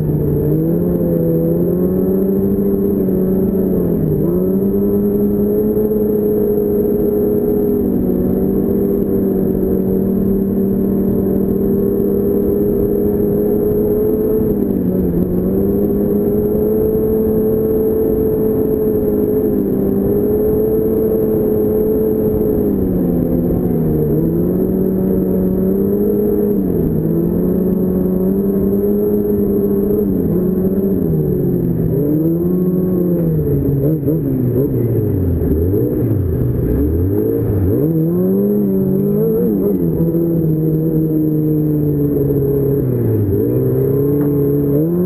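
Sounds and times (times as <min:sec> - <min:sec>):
snowmobile engine running: 0:00.0 - 0:45.0.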